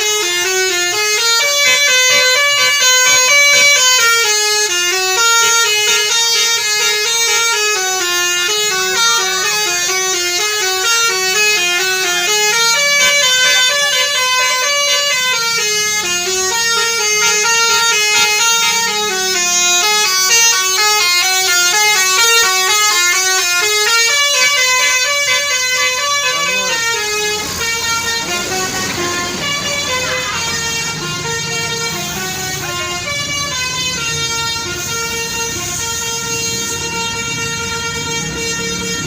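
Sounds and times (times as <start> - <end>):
musical bus horn tune: 0.0 - 39.0.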